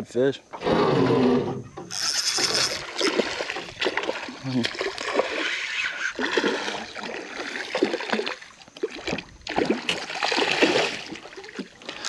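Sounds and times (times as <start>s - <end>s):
fish thrashing water splashing: 2.3s - 12.0s.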